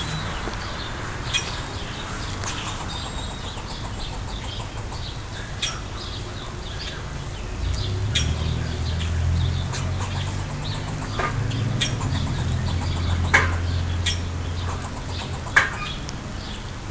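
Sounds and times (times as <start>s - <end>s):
squirrel chirping alarm calls: 0.0s - 16.7s.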